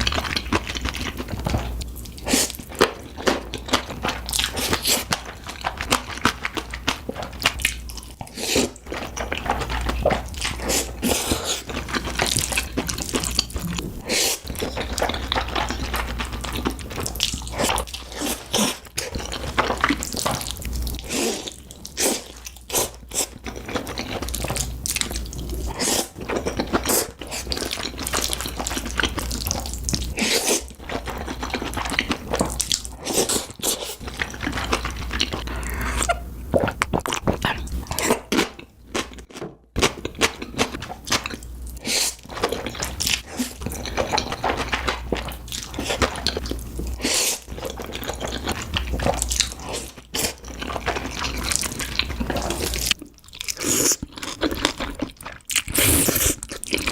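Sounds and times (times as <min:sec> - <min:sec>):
wet chewing and smacking: 0:00.0 - 0:56.9.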